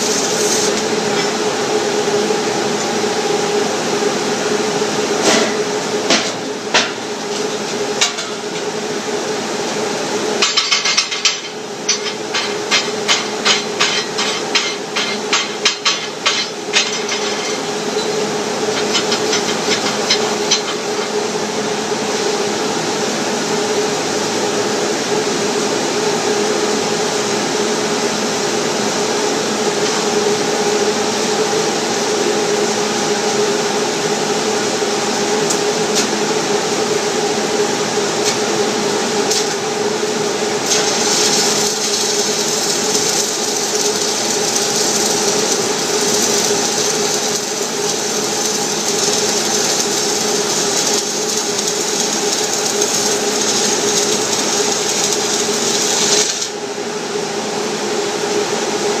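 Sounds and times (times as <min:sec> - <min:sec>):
steady hum and hiss: 0:00.0 - 0:59.0.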